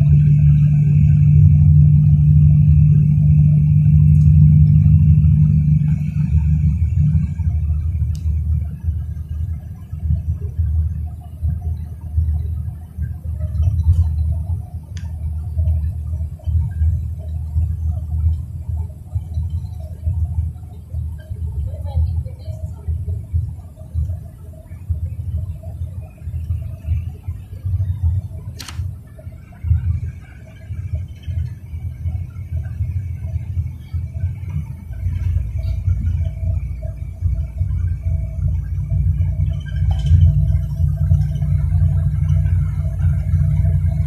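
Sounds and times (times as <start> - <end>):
road and engine rumble: 0.0 - 44.0.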